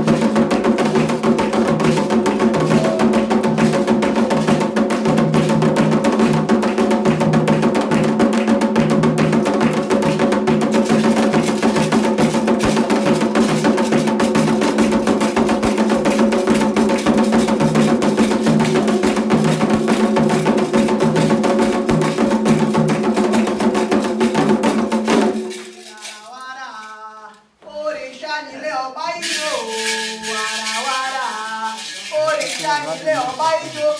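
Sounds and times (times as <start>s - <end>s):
hand drums: 0.0s - 26.4s, 29.2s - 33.9s.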